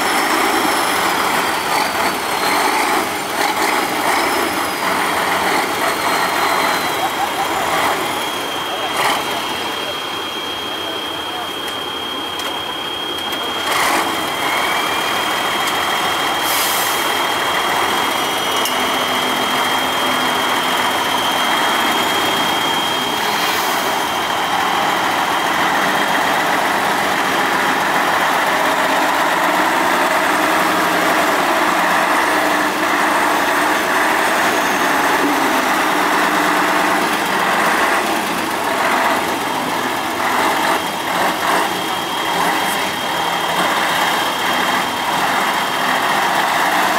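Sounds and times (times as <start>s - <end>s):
diesel truck engine under load: 0.0s - 46.9s
steady high whine: 0.0s - 46.9s.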